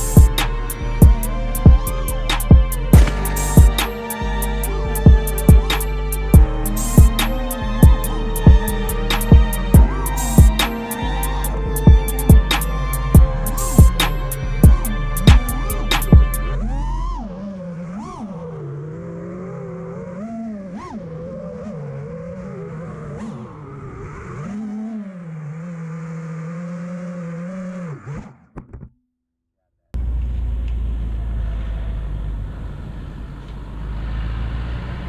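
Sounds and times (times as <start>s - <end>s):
drone motors whining: 0.0s - 28.3s.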